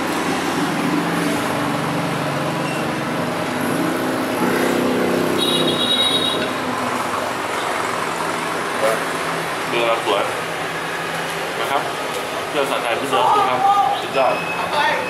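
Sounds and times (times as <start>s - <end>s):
vehicle engine passing: 0.0s - 13.0s
road traffic noise: 0.0s - 15.0s.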